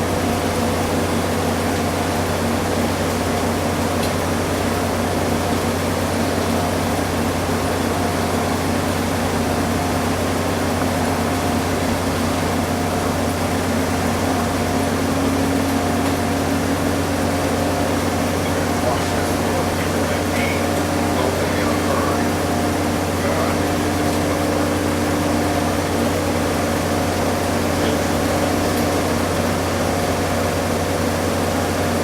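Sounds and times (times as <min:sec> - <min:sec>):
washing machine spinning: 0:00.0 - 0:32.0.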